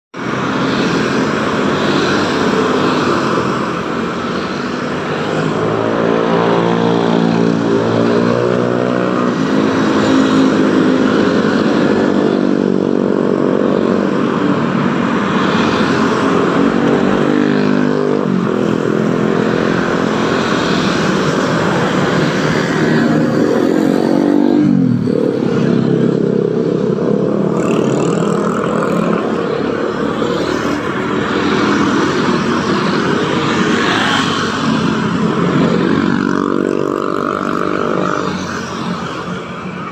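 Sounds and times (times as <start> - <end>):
road traffic passing: 0.1 - 39.9.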